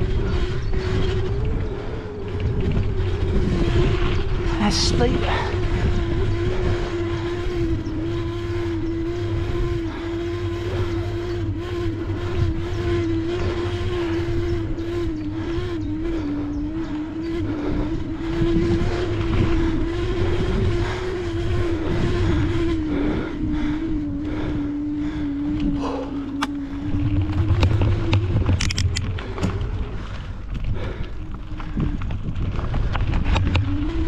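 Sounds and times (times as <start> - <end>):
electric motor whining: 0.0 - 34.0
low rumble: 0.0 - 34.0.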